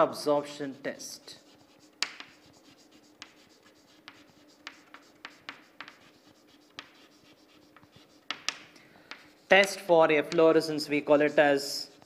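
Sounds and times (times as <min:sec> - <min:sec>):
faint steady hum: 0:00.0 - 0:12.0
chalk tapping and scratching: 0:01.2 - 0:12.0.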